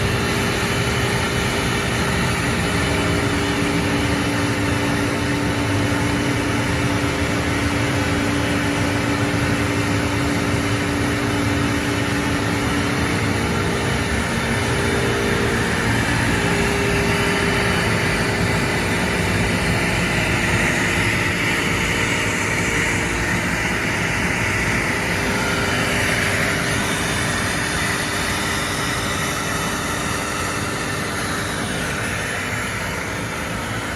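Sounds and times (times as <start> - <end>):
machine spindle running under load: 0.0 - 33.9.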